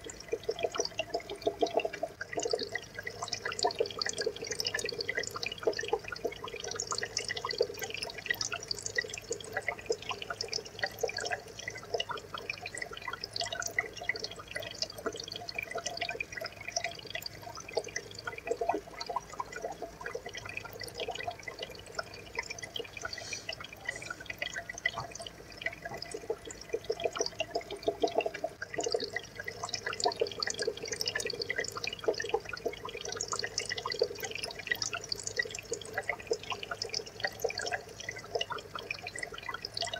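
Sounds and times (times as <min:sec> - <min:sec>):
aquarium water bubbling: 0:00.0 - 0:39.9
low steady hum: 0:00.0 - 0:39.9.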